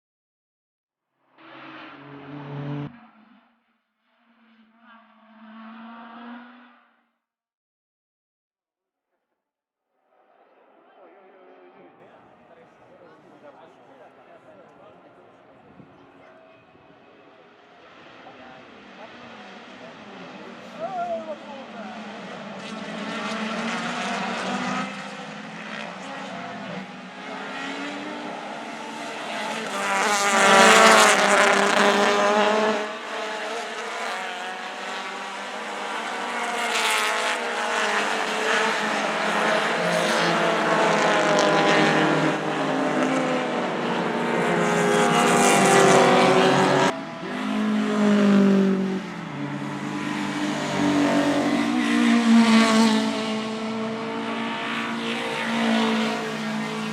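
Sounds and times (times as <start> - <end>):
racing cars passing at speed: 1.3 - 7.0, 10.2 - 56.9.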